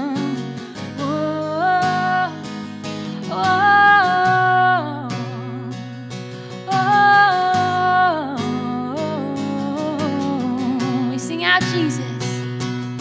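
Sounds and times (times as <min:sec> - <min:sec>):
woman singing: 0:00.0 - 0:12.5
strummed acoustic guitar: 0:00.0 - 0:13.0.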